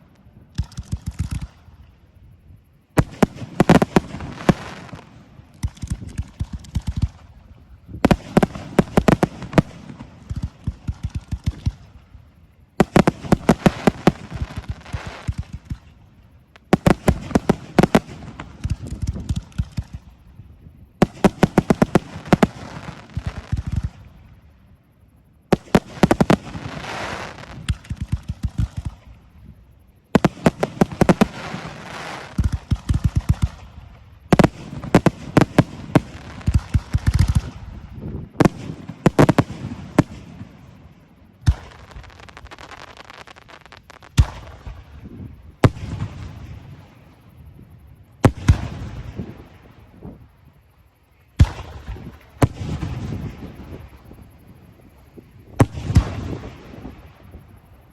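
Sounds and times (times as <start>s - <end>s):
fireworks bangs and crackling: 0.0s - 1.8s, 2.9s - 24.4s, 25.5s - 47.6s, 48.2s - 50.3s, 51.4s - 57.7s
fireworks hiss: 0.0s - 57.9s.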